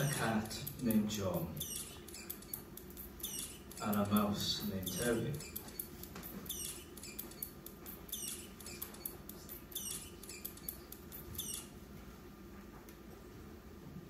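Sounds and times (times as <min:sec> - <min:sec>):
mouse squeaking: 0:00.0 - 0:11.8.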